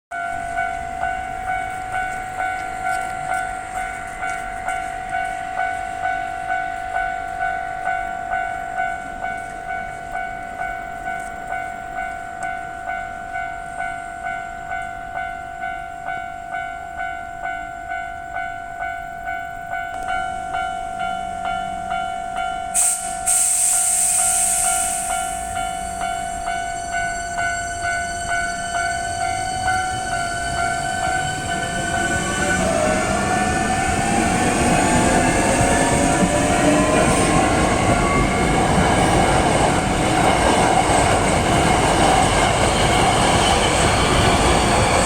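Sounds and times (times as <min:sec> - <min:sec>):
level crossing warning bell: 0:00.1 - 0:45.0
train passing: 0:00.1 - 0:45.0.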